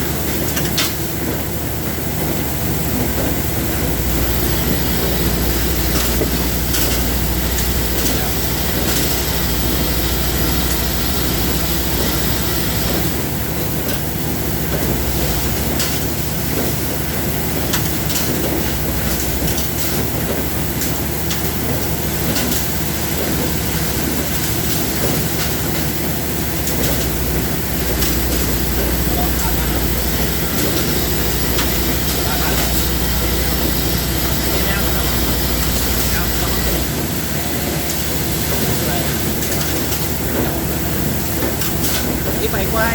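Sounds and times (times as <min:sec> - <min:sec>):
industrial machinery noise: 0:00.0 - 0:42.9.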